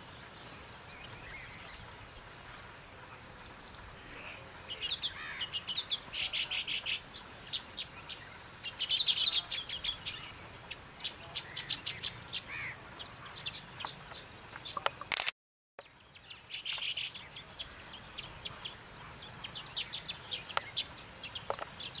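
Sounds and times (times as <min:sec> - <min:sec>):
birds chirping and chattering: 0:00.0 - 0:15.1, 0:15.8 - 0:22.0.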